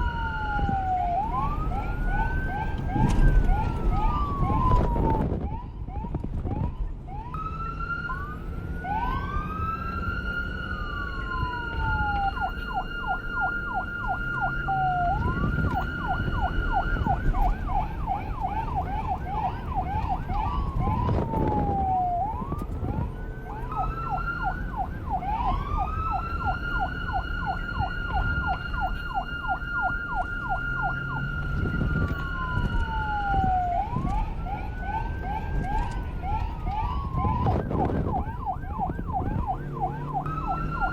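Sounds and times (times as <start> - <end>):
police car siren: 0.0 - 40.9.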